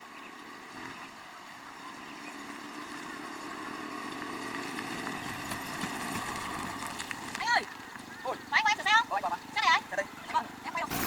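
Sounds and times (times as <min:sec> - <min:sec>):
vehicle engine running: 0:00.0 - 0:08.0, 0:09.0 - 0:11.0.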